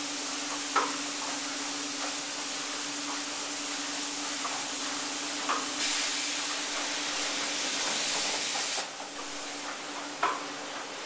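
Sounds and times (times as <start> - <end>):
roll-up door hiss and whine: 0.0 - 11.0.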